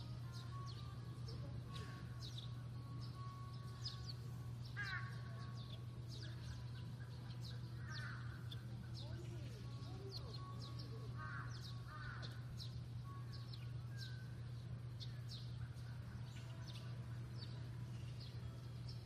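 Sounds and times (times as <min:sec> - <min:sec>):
small birds chirping: 0:00.0 - 0:19.0
steady low hum: 0:00.0 - 0:19.0
harsh bird calls: 0:01.6 - 0:19.0.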